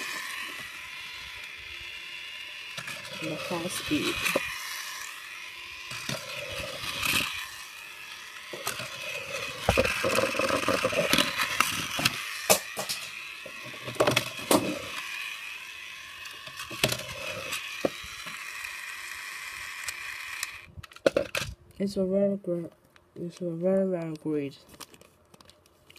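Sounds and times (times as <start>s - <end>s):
toy clicking and knocking: 0.0s - 21.5s
toy train motor whirring: 0.0s - 21.6s.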